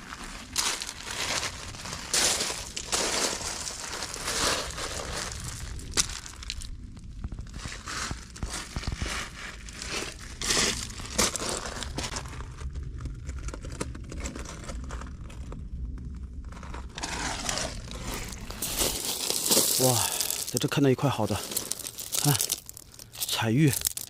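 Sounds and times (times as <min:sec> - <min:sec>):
gravel crunching and clicking: 0:00.0 - 0:24.0.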